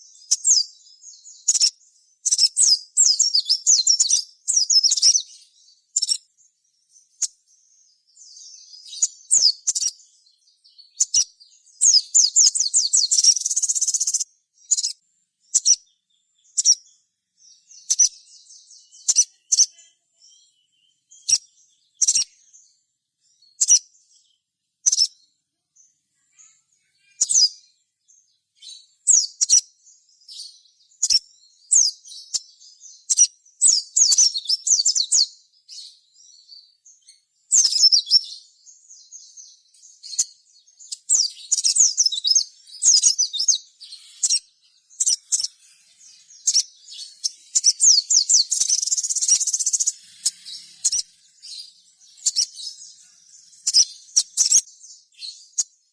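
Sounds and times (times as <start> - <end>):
bird chirping and trilling: 0.0 - 55.9.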